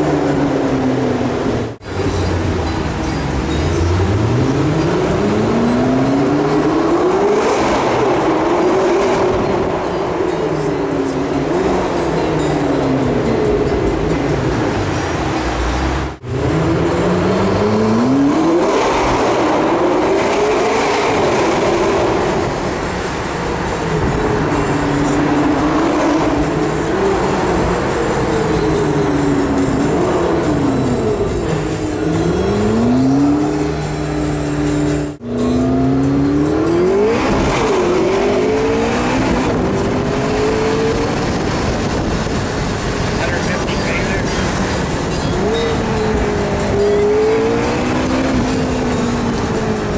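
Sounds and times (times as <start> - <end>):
car engine accelerating hard: 0.0 - 49.9.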